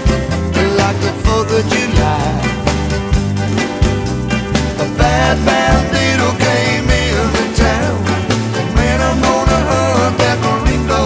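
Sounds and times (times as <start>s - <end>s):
song with bass and steady beat: 0.0s - 11.0s.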